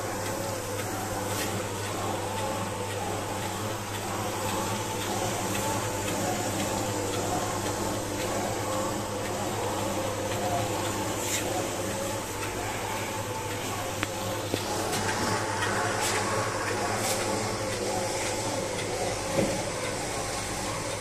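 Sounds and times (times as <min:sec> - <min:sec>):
machine running with motor hum: 0:00.0 - 0:21.0.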